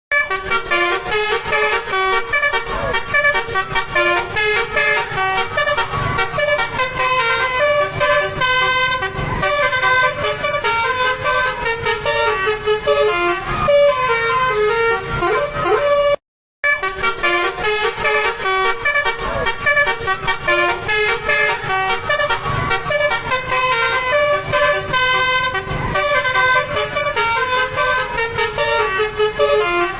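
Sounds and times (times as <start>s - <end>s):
bus horn playing a tune: 0.1s - 29.9s.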